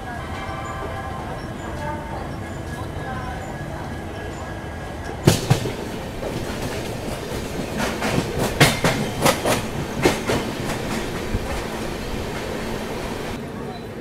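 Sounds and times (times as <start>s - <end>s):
wheels clacking over rail joints: 0.0s - 13.4s
train wheels rumbling on rails: 0.0s - 14.0s.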